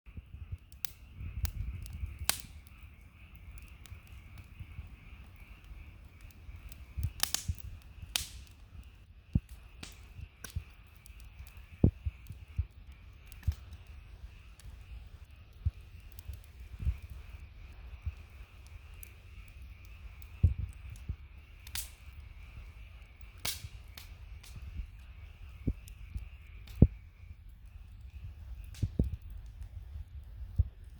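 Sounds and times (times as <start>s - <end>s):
campfire crackling and popping: 0.1s - 30.9s.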